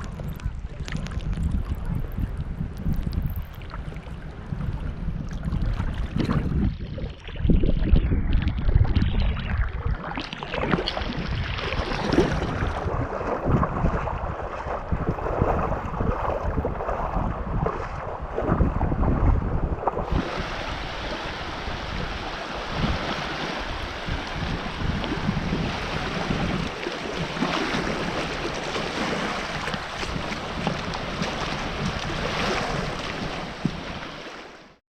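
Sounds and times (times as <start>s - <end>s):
surf and wind on beach: 0.0s - 34.8s
wind rumbling on microphone: 0.0s - 34.8s.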